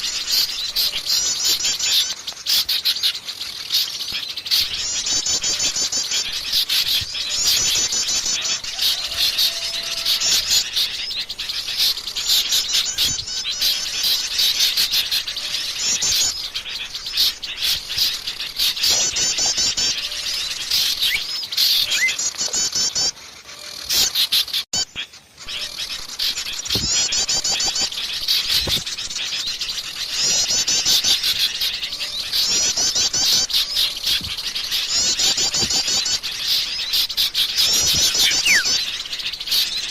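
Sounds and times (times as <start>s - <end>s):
rapid high bird trill: 0.0s - 39.9s
songbirds chirping and twittering: 0.0s - 39.9s.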